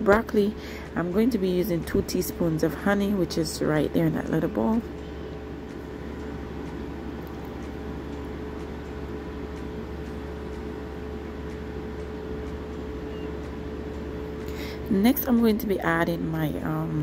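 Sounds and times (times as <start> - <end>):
background hum and hiss: 0.0 - 17.0
constant mid-pitched tone: 0.0 - 17.0.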